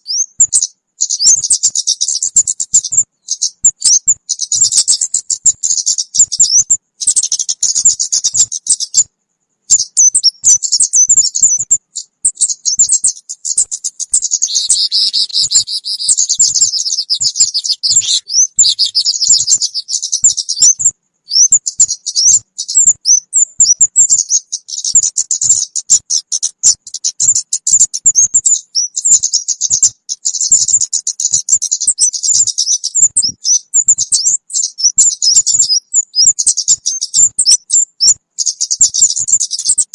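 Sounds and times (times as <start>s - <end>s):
bird chirping and twittering: 0.0s - 9.1s, 9.7s - 39.9s.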